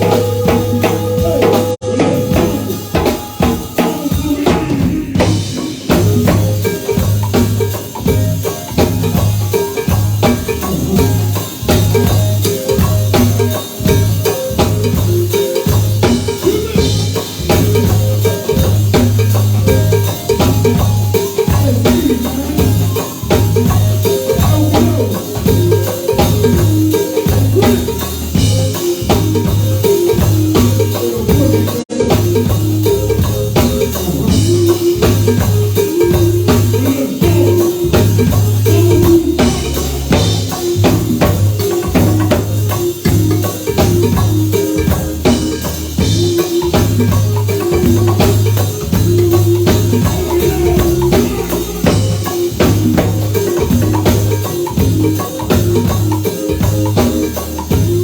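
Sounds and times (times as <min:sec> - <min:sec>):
live band playing instrumental: 0:00.0 - 0:58.0
repeating bass line: 0:00.0 - 0:58.0
steady drum beat: 0:00.0 - 0:58.0.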